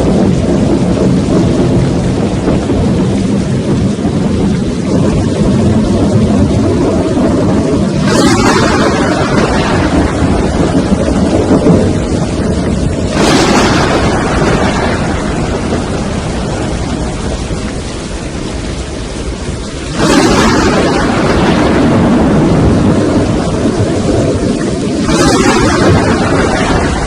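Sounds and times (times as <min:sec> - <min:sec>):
rain: 0:00.0 - 0:27.0
storm wind on microphone: 0:00.0 - 0:27.0.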